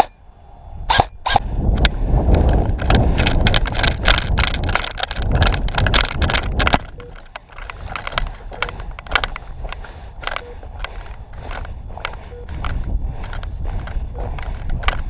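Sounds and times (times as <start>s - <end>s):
wind rumble on microphone: 0.0s - 15.0s
sharp clicks: 0.9s - 15.0s.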